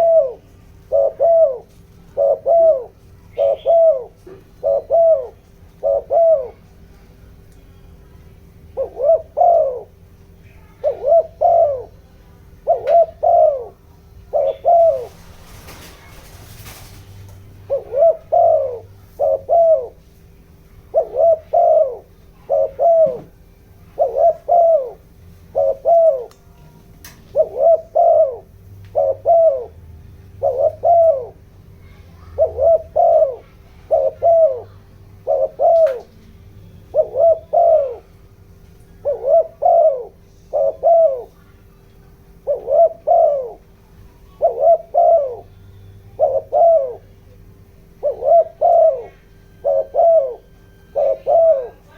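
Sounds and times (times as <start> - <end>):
dove cooing: 0.0 - 7.4, 8.3 - 51.9.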